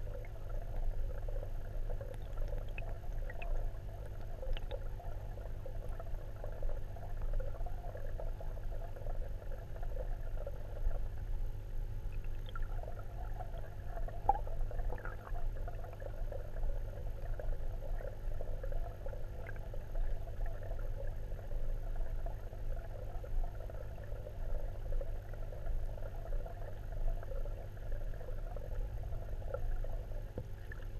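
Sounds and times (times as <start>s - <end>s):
fluttering underwater water sound: 0.0s - 30.9s
low hum: 0.0s - 30.9s.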